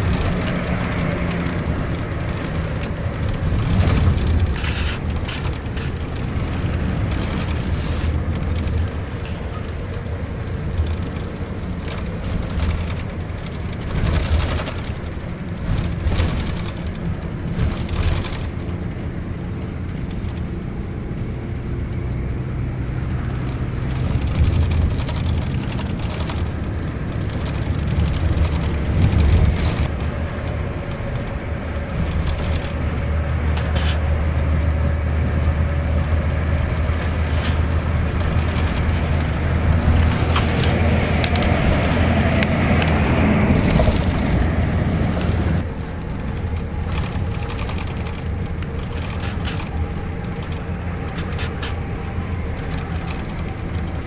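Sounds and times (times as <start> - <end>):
bus diesel engine droning: 0.0 - 54.0
rattles and clicks: 0.0 - 54.0.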